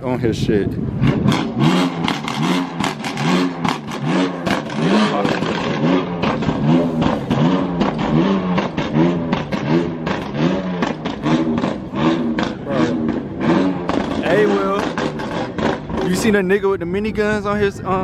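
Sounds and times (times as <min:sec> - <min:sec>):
car engine revving: 0:00.9 - 0:16.6.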